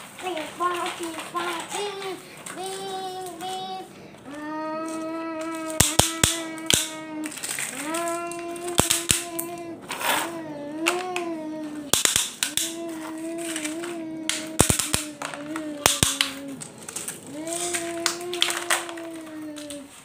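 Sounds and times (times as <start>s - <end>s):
plastic toys clacking: 0.0s - 20.0s
child singing or humming: 0.2s - 11.9s, 12.5s - 20.0s.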